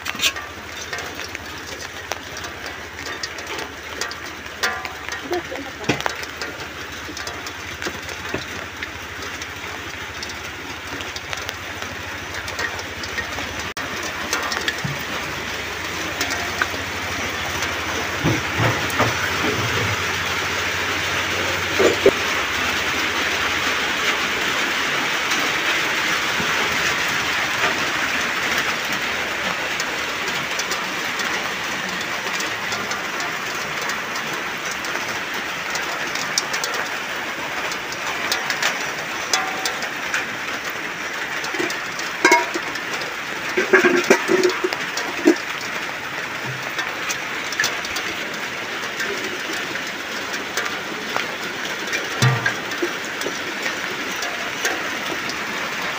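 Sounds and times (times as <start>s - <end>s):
knocks and clatters: 0.0s - 23.2s, 24.0s - 55.9s
rain falling: 0.0s - 55.9s.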